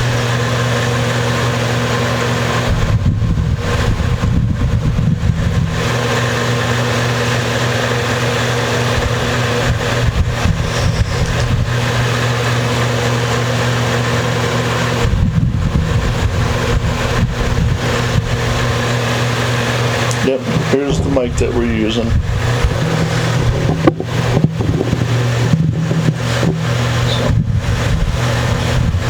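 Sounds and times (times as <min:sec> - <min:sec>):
electric fan running: 0:00.0 - 0:29.0
wind rumble on microphone: 0:02.6 - 0:07.5, 0:08.1 - 0:13.5, 0:14.9 - 0:29.0.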